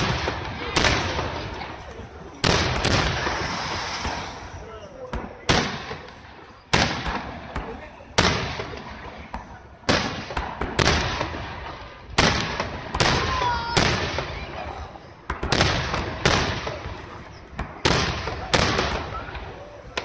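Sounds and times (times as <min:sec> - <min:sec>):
fireworks booming: 0:00.0 - 0:20.0.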